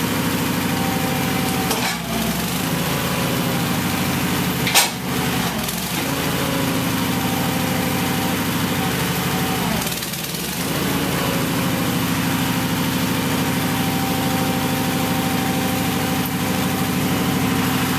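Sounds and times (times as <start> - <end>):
engine running: 0.0 - 17.9.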